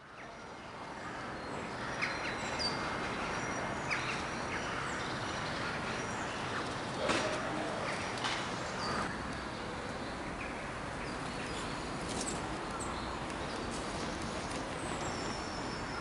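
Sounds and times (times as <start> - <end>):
steady outdoor background noise: 0.0 - 16.0.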